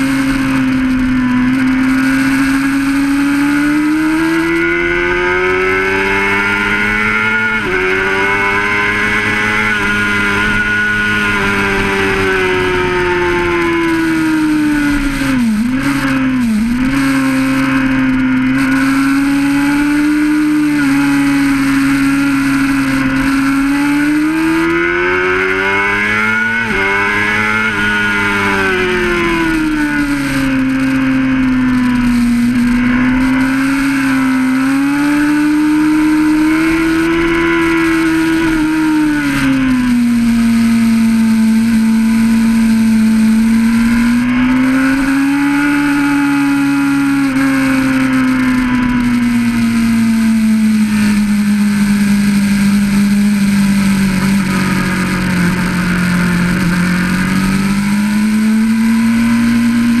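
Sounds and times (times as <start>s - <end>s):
motorcycle engine at speed: 0.0s - 60.0s.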